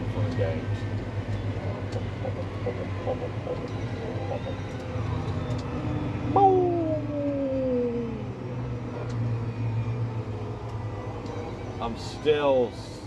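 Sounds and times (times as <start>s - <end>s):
tractor engine running: 0.0s - 12.1s.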